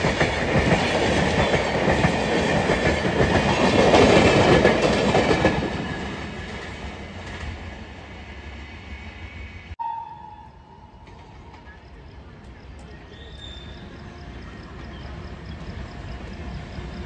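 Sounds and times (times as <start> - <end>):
train coaches rushing past: 0.0 - 17.0.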